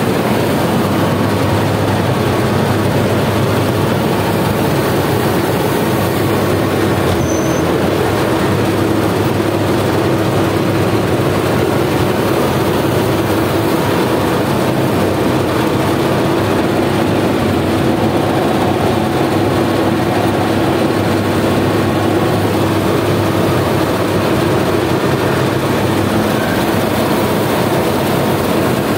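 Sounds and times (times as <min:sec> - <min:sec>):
combine harvester drone: 0:00.0 - 0:28.9.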